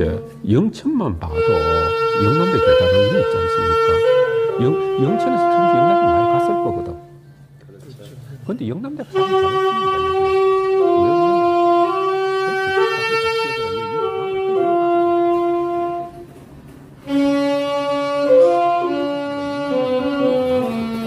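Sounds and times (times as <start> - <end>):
saxophone-like slow melody: 0.0 - 0.5, 1.2 - 7.5, 9.0 - 21.0.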